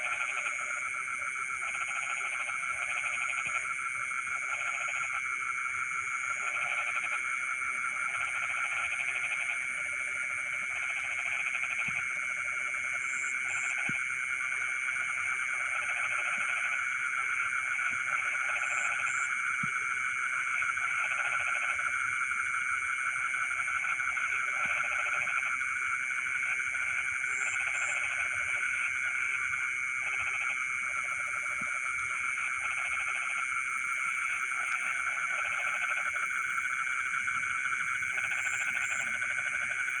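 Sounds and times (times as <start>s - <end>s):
frogs trilling: 0.0s - 40.0s
low pulsing frog calls: 0.0s - 40.0s.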